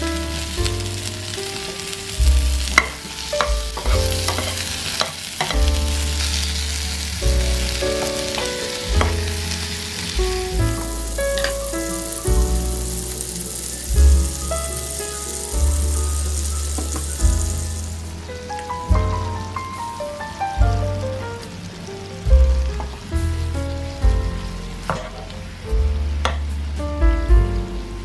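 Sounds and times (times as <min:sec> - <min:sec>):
vegetables sizzling in oil: 0:00.0 - 0:26.8
soft music with bass line: 0:00.0 - 0:28.0.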